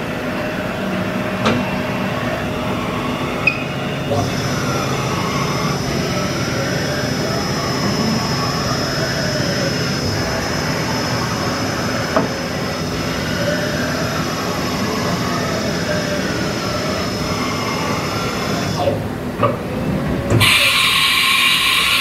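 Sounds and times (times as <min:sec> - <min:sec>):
steady high tone: 0:00.0 - 0:18.9
machine servo whine: 0:00.6 - 0:19.0, 0:20.4 - 0:22.0.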